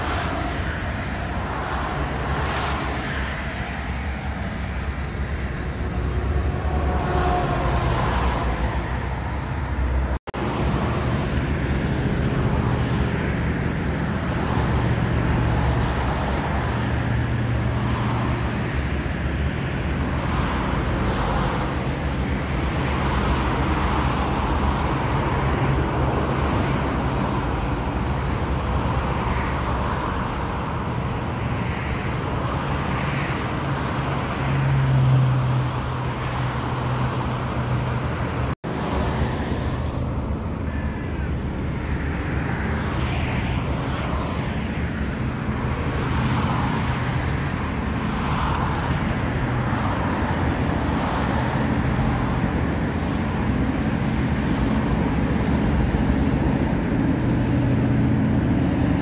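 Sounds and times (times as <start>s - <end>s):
traffic noise: 0.0s - 59.0s.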